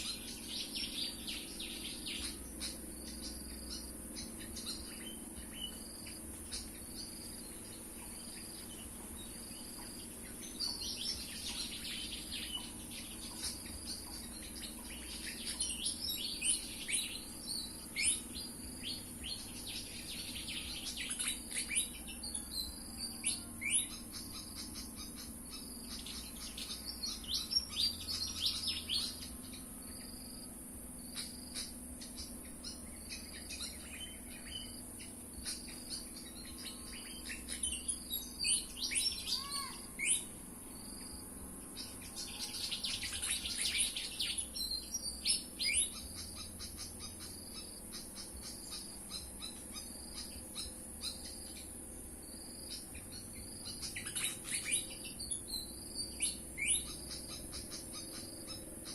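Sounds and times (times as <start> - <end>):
birds twittering: 0.0 - 58.9
high-pitched insect drone: 0.0 - 58.9.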